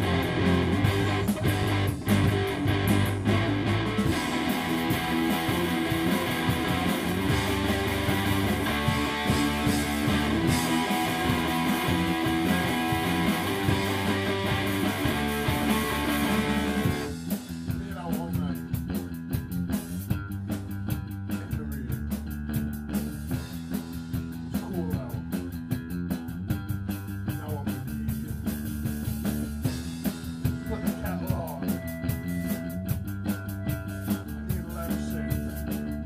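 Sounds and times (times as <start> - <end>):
bass guitar: 0.0 - 36.0
drum kit: 0.0 - 36.0
electric guitar: 0.0 - 36.0.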